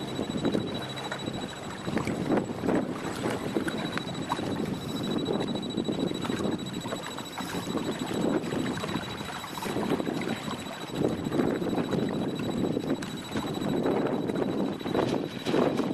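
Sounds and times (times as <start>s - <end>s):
waves splashing and knocking: 0.0s - 15.9s
wind buffeting microphone: 0.0s - 15.9s.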